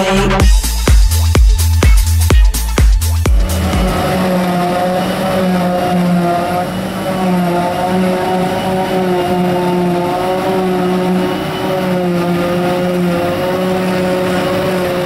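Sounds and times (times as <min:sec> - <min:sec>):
forage harvester droning: 0:00.0 - 0:15.0.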